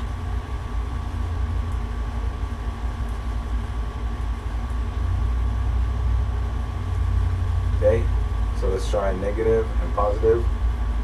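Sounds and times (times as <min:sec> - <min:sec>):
faint constant whine: 0:00.0 - 0:11.0
room machinery hum: 0:00.0 - 0:11.0.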